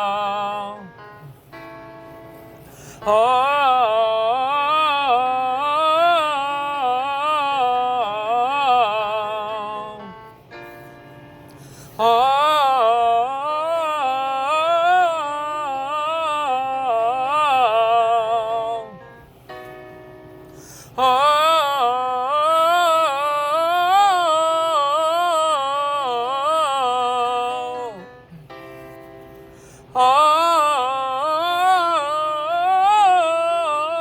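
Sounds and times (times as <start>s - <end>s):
keyboard notes: 0.0s - 34.0s
person singing vocal exercise: 2.7s - 10.3s, 11.8s - 19.2s, 20.6s - 28.6s, 29.5s - 34.0s.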